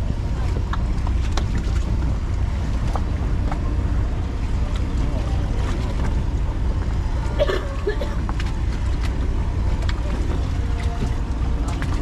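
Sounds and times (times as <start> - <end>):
boat engine droning: 0.0 - 12.0
faint voices: 0.0 - 12.0.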